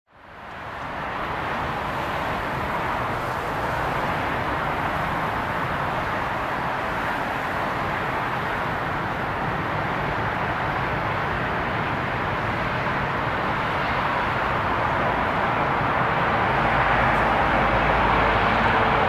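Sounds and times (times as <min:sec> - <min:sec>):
jet airliner rushing overhead: 0:01.0 - 0:19.0.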